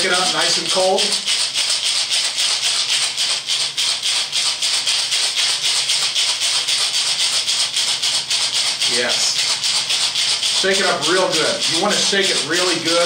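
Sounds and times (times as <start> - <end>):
ice rattling in a shaker: 0.0 - 13.0.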